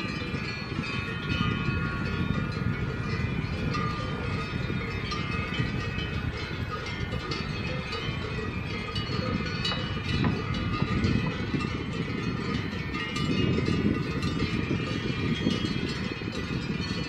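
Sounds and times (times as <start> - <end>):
cowbells jangling: 0.0 - 17.0
wind: 0.0 - 17.0.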